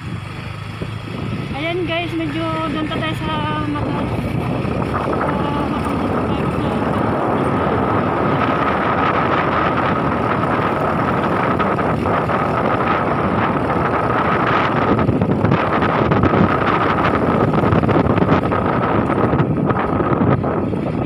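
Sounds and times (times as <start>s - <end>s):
vehicle driving on road: 0.0s - 21.0s.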